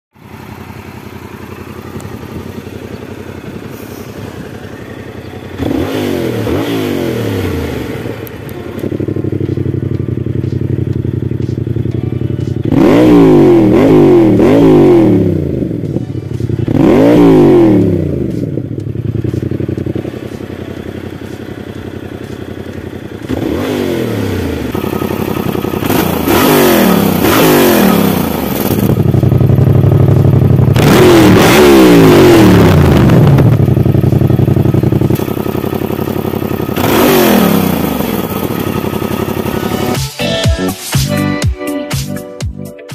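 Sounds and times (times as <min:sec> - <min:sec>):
motorcycle engine revving: 0:00.2 - 0:40.4.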